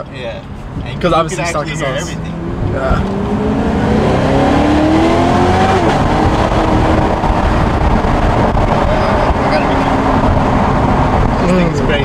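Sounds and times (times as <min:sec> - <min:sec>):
car engine accelerating hard: 0:01.0 - 0:12.0.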